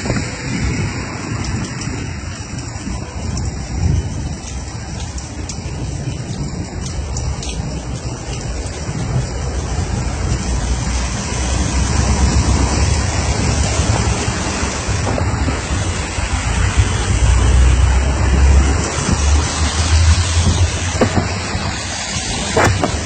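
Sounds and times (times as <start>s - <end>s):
heavy rain hissing: 0.0s - 23.0s
wind buffeting microphone: 0.0s - 23.0s.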